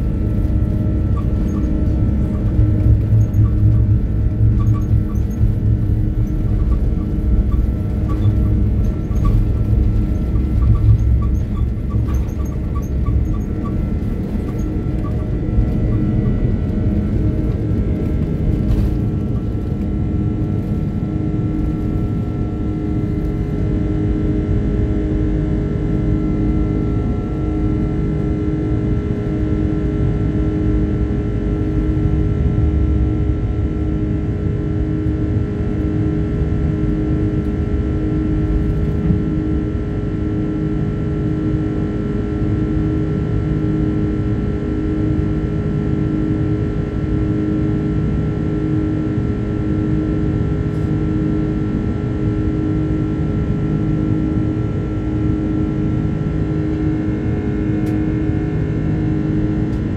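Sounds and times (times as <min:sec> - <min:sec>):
jet engines rumbling at takeoff: 0:00.0 - 0:59.9.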